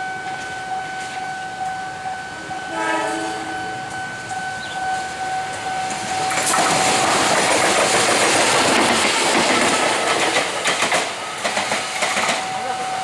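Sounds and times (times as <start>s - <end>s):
train passing: 0.0s - 13.0s
wheels clacking over rail joints: 2.5s - 13.0s.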